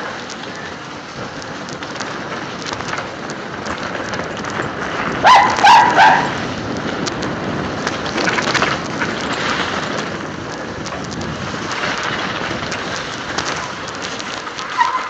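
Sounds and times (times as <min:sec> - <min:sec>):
wind on microphone: 0:00.0 - 0:14.9
bike tyre noise: 0:00.0 - 0:15.0
small rattles and crunches: 0:00.0 - 0:15.0.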